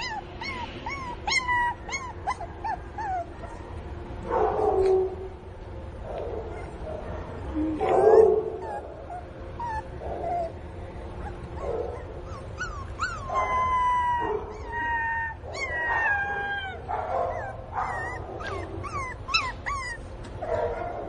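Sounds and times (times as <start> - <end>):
puppy yelping: 0.0 - 3.7, 6.4 - 6.8, 7.8 - 21.0
puppy whining: 0.0 - 3.8, 6.4 - 20.9.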